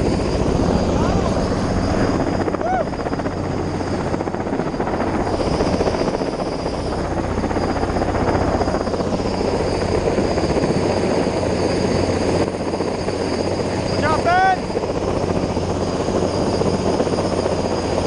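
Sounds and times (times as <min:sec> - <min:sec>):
helicopter hovering: 0:00.0 - 0:18.0.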